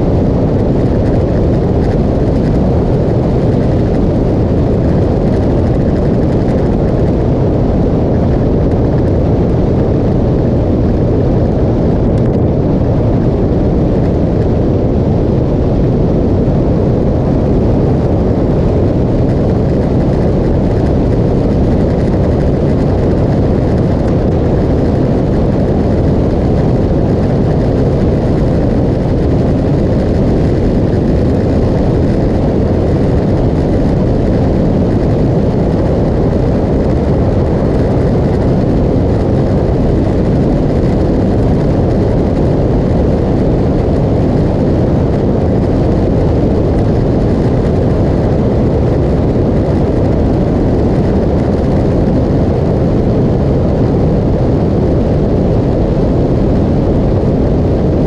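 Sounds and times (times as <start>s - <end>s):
wind and road noise: 0.0s - 58.0s
wind buffeting microphone: 0.0s - 58.0s.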